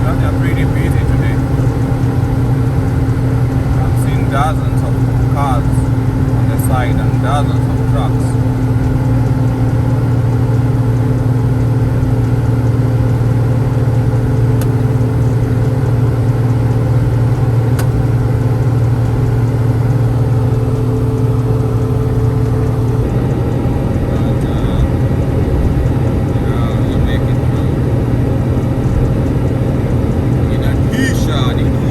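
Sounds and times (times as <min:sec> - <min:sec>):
diesel truck engine humming: 0:00.0 - 0:31.9
road noise: 0:00.0 - 0:31.9.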